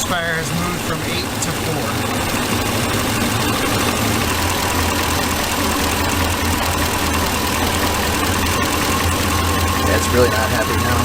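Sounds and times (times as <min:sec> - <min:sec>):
engine idling with misfire: 0:00.0 - 0:11.0.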